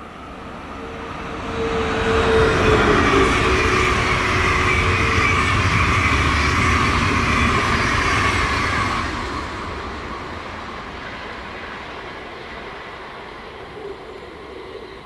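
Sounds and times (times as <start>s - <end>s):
train wheels rolling on rail: 0.0s - 13.9s.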